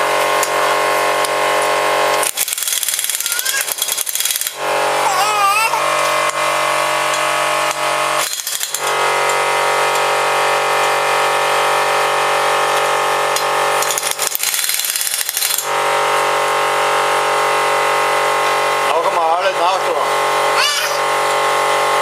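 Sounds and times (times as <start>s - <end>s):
steady machine hum: 0.0s - 14.4s, 15.6s - 22.0s.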